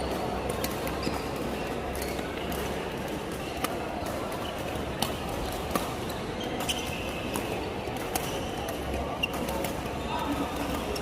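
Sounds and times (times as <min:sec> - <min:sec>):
rackets hitting shuttlecock: 0:00.0 - 0:11.0
sports hall hum: 0:00.0 - 0:11.0.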